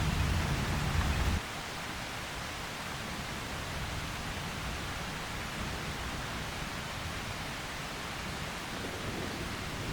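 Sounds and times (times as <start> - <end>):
rain falling: 0.0 - 9.9.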